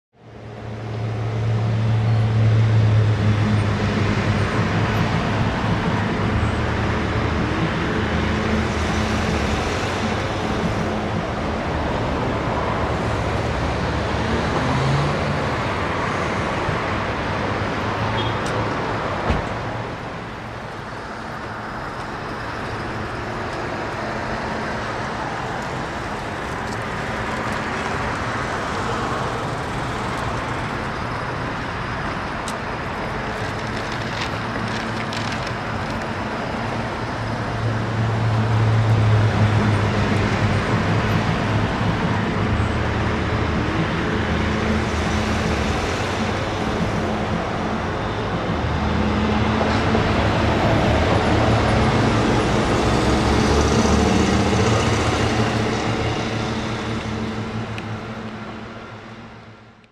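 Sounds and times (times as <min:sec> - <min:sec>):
passing cars: 0:00.2 - 0:59.9.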